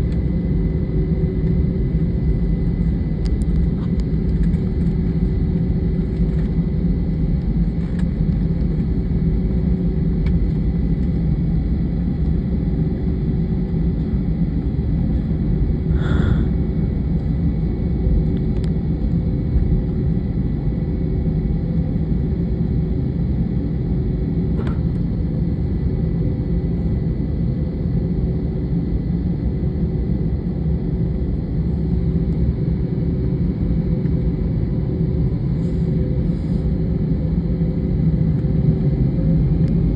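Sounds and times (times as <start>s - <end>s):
faint steady whine: 0.0s - 39.9s
jet engine drone in cabin: 0.0s - 39.9s.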